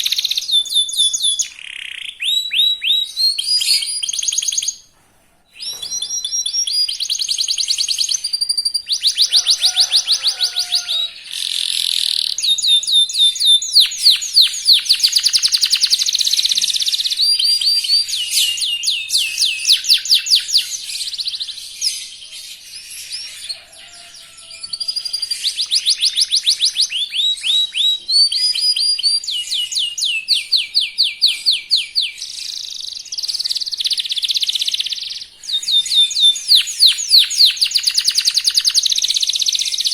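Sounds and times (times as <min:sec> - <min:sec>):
canary singing trills: 0:00.0 - 0:04.9, 0:05.6 - 0:39.9.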